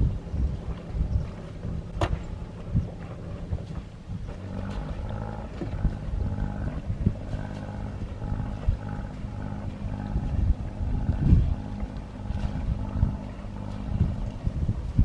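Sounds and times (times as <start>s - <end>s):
boat engine running: 0.0s - 15.0s
low thumps: 0.0s - 15.0s.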